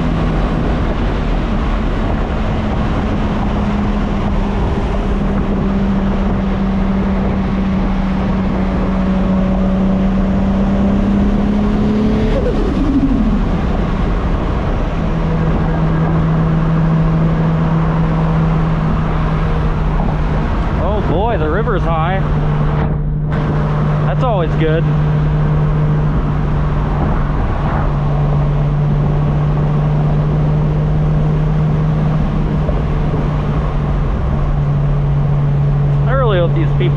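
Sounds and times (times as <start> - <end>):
road noise: 0.0 - 36.9
turbocharged car engine: 0.0 - 36.9.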